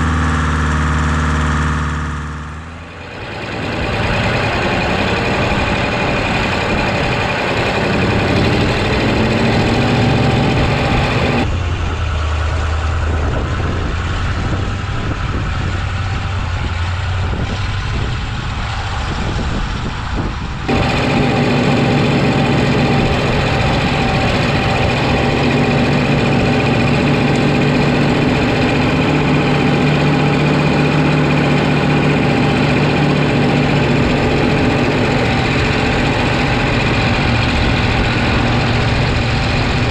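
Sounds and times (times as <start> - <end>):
diesel tractor engine running: 0.0 - 39.9
distant tractor: 0.0 - 39.9.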